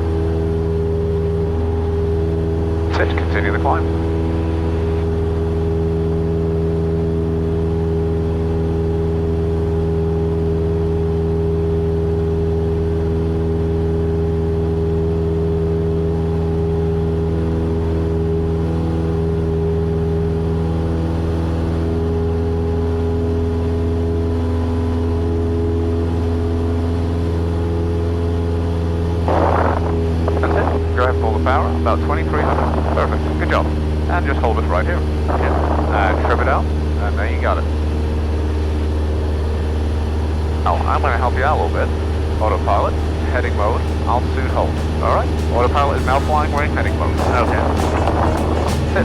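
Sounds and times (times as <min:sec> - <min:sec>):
airplane engine drone from cabin: 0:00.0 - 0:49.0.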